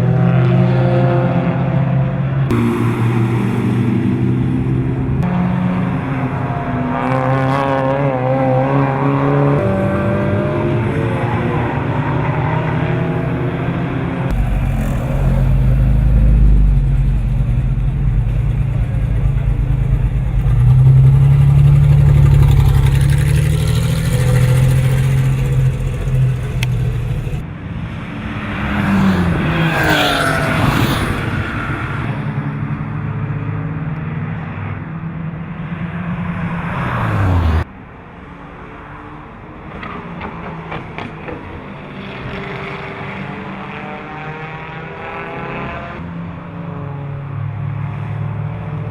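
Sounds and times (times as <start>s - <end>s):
car engine at racing revs: 0.0s - 27.4s, 28.2s - 32.1s, 39.0s - 48.9s.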